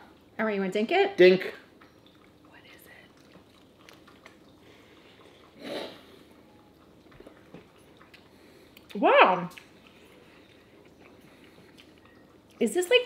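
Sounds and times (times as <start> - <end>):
person chewing food: 1.7 - 12.6.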